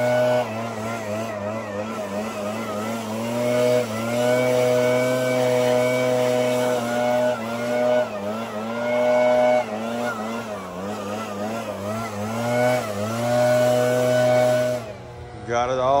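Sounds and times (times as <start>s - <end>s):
leaf blower engine running: 0.0s - 16.0s.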